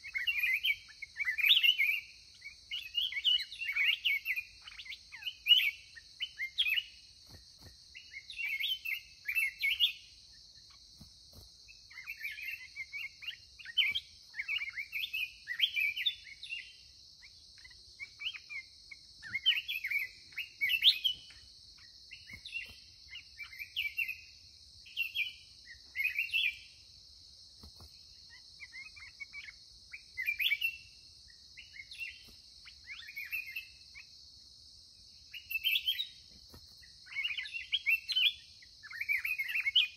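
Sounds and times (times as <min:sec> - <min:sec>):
birds singing warbled phrases: 0:00.0 - 0:27.0, 0:27.6 - 0:34.2, 0:35.1 - 0:39.9
high insect drone: 0:00.0 - 0:39.9.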